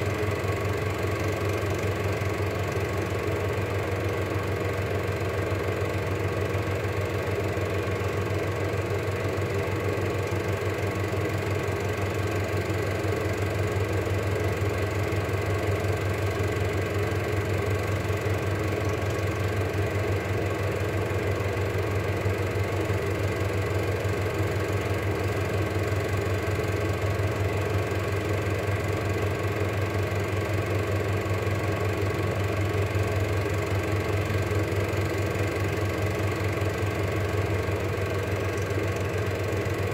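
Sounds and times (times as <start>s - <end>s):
film projector motor hum: 0.0s - 39.9s.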